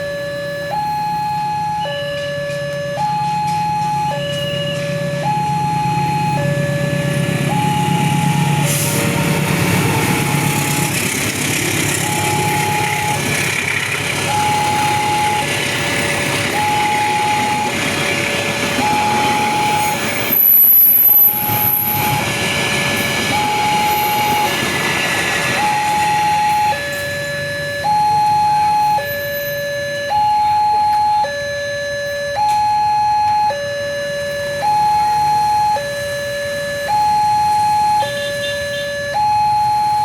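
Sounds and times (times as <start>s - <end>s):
steady traffic noise: 0.0s - 40.0s
two-tone crossing alarm: 0.0s - 40.0s.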